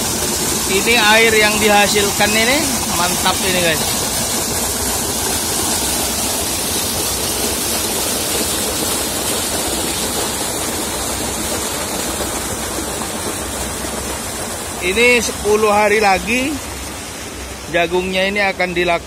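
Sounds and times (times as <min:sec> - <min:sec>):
water gushing from a pipe: 0:00.0 - 0:19.0.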